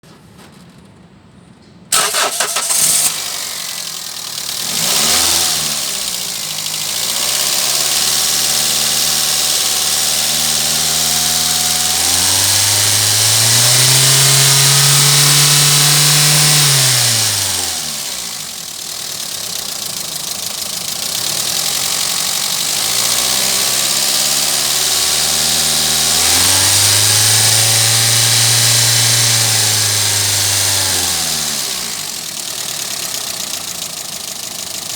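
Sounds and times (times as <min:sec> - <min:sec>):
car engine starting and revving: 0:01.9 - 0:34.9.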